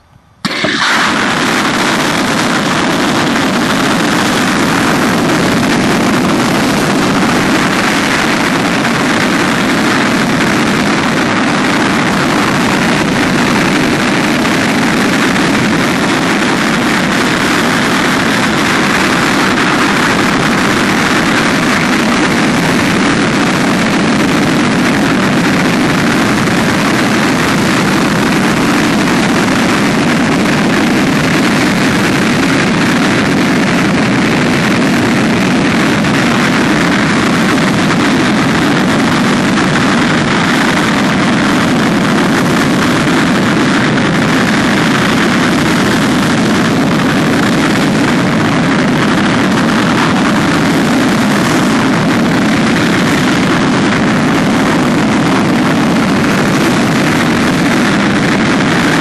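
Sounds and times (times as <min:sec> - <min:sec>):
rocket engine firing: 0:00.0 - 0:59.0.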